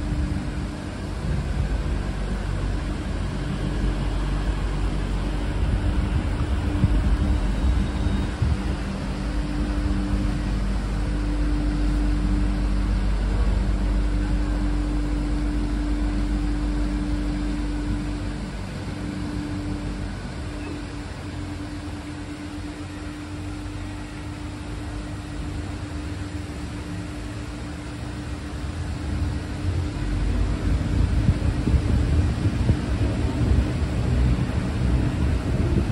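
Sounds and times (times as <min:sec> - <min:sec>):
mechanical hum: 0:00.0 - 0:35.9
water rumbling through lock: 0:00.0 - 0:35.9.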